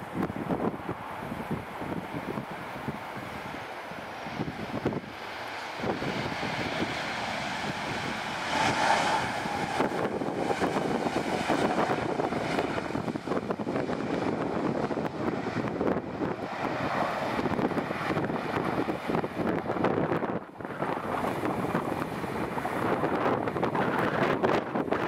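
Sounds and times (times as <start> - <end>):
jet engines rushing and whining: 0.0 - 25.0
wind buffeting microphone: 0.0 - 25.0.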